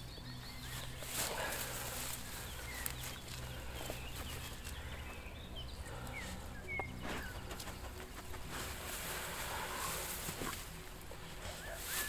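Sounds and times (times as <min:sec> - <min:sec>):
grass and twigs rustling: 0:00.0 - 0:12.0
low steady hum: 0:00.0 - 0:12.0.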